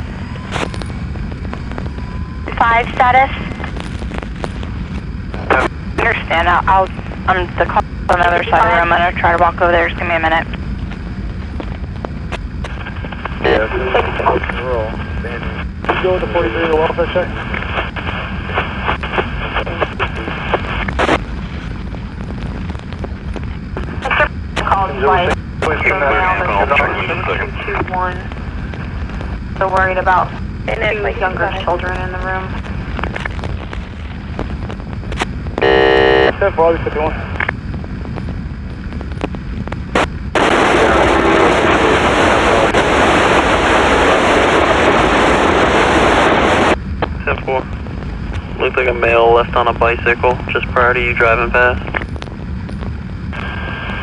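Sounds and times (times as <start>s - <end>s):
police scanner static: 2.4s - 10.6s, 12.6s - 21.8s, 22.9s - 37.5s, 39.9s - 52.1s.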